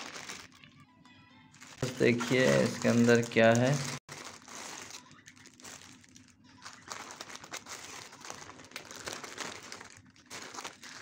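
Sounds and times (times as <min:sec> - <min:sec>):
plastic packaging crinkling: 0:00.0 - 0:00.8, 0:01.4 - 0:11.0.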